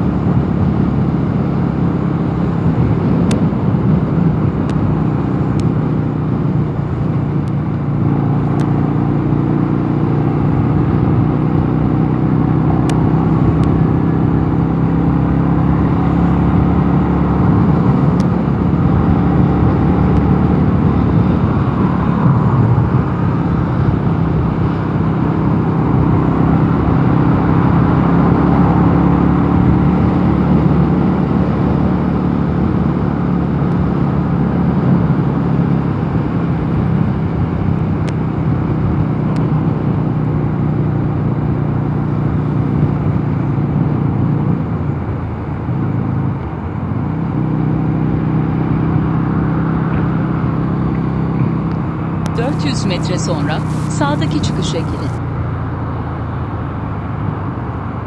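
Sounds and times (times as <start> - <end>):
motorcycle engine cruising: 0.0 - 58.0
road noise: 0.0 - 58.0.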